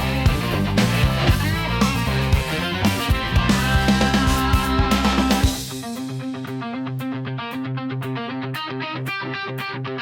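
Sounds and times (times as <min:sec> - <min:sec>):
guitar picking: 0:00.0 - 0:10.0.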